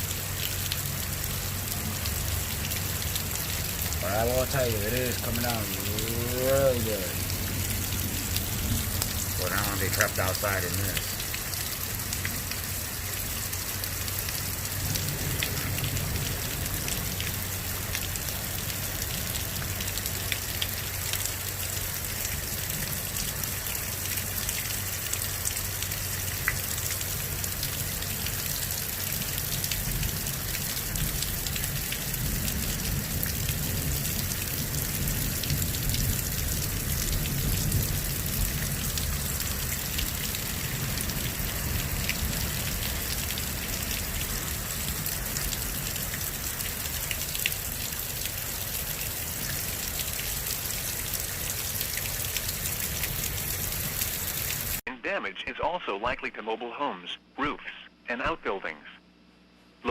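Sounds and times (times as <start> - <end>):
heavy rain pouring: 0.0 - 54.8
raindrops pattering on surfaces: 0.0 - 54.8.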